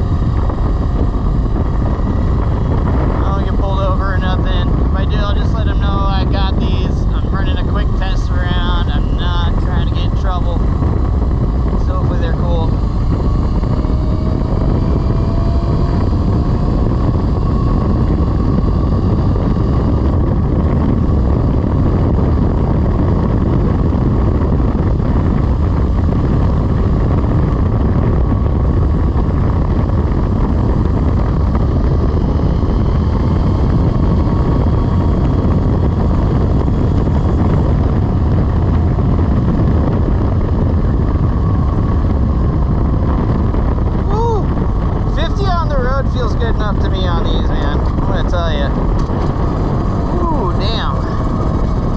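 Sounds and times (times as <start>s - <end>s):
electric motor whine: 0.0s - 51.9s
low rumble: 0.0s - 51.9s
wind buffeting on microphone: 0.0s - 51.9s.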